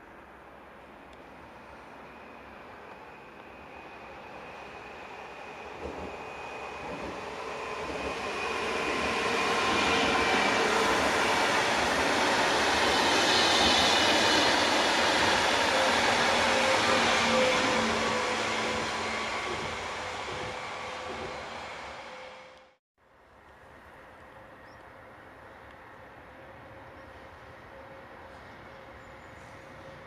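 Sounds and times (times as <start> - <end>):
train passing at speed: 0.0 - 22.8, 23.6 - 30.0.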